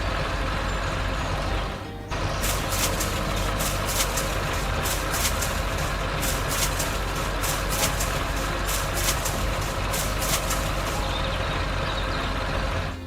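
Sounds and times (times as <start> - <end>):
large engine rumbling: 0.0 - 13.0
quick uneven clicking: 0.2 - 13.0.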